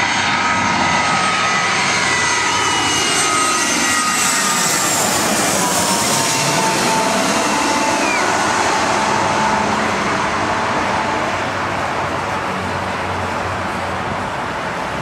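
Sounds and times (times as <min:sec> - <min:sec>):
jet airliner engines rushing: 0:00.0 - 0:15.0.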